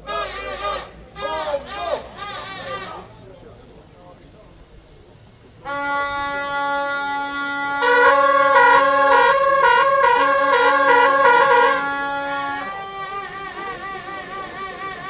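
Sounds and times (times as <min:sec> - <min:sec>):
noisemaker horn long low note: 0:00.0 - 0:03.1, 0:05.6 - 0:15.0
noisemaker horn tooting two notes: 0:00.0 - 0:03.1, 0:05.6 - 0:15.0.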